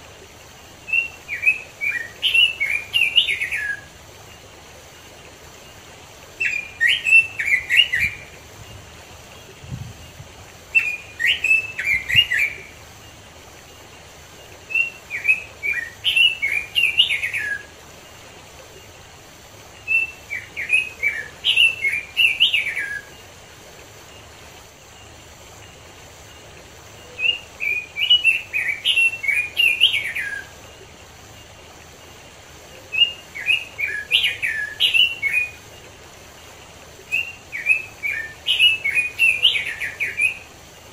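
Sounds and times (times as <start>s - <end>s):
bird warbling song: 0.4s - 40.9s.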